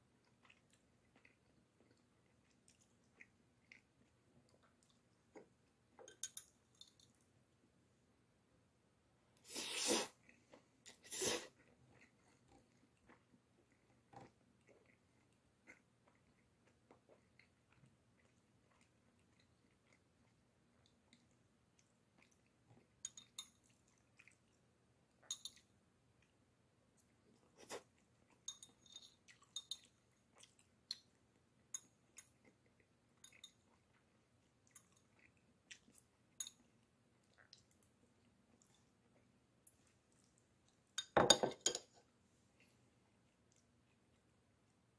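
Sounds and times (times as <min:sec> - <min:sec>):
quiet chewing: 0:00.0 - 0:07.4, 0:09.4 - 0:41.2, 0:41.8 - 0:44.9.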